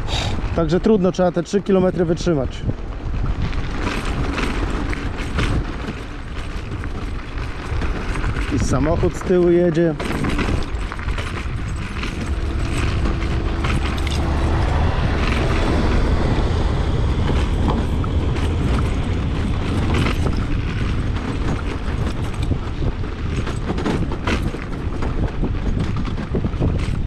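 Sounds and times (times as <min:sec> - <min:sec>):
wind and tyres rumbling on gravel: 0:00.0 - 0:27.0
suspension knocking and rattling: 0:00.4 - 0:27.0.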